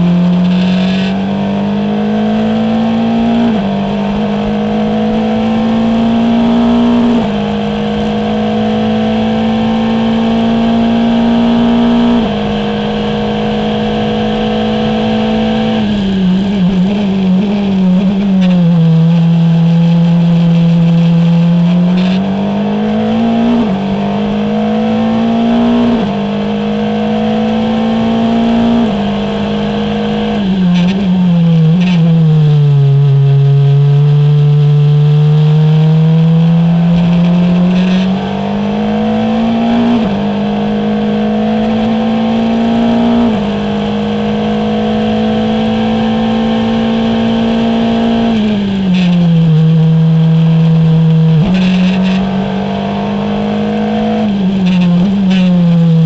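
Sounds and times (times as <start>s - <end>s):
race car engine revving through gears: 0.0s - 56.0s.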